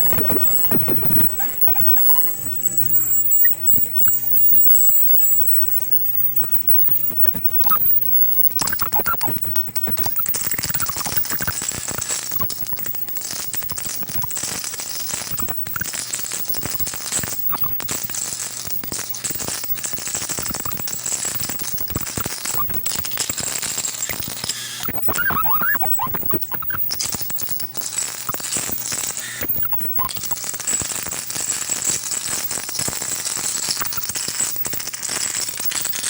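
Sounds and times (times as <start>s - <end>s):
whistle-like chirps: 0.0s - 23.2s, 24.1s - 30.4s
plasma discharge crackling: 0.0s - 36.0s.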